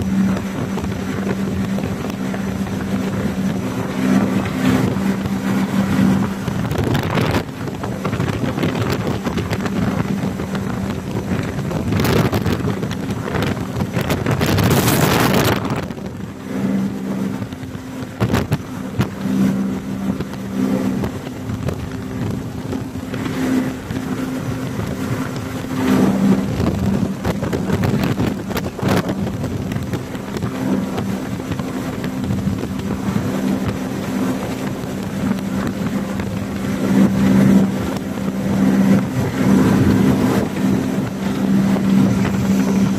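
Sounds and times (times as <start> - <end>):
jet boat engine drone: 0.0 - 42.9
wind on microphone: 0.0 - 42.9.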